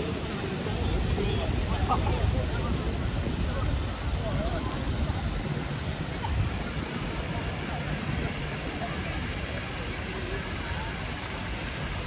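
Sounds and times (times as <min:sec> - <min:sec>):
faint voices of passers-by: 0:00.0 - 0:12.0.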